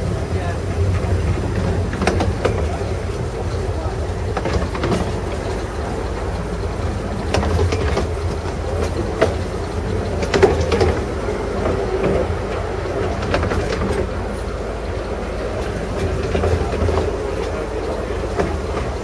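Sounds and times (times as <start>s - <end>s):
train wheels rumbling on track: 0.0s - 19.0s
wheels clicking over rail joints: 0.0s - 19.0s.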